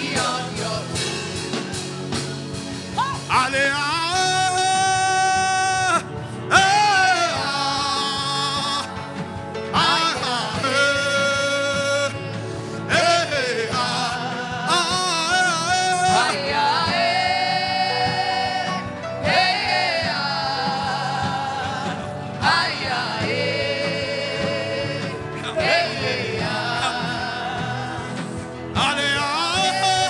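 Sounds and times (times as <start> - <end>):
instrumental accompaniment with beat: 0.0 - 30.0.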